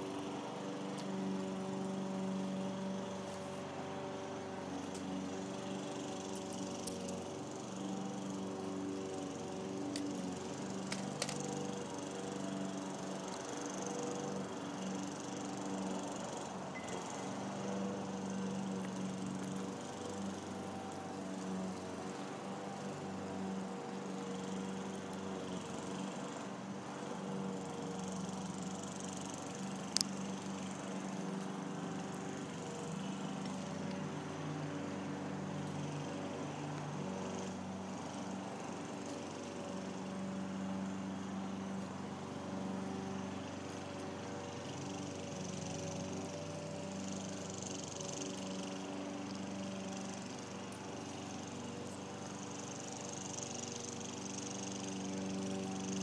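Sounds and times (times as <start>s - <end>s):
small motor droning: 0.0s - 56.0s.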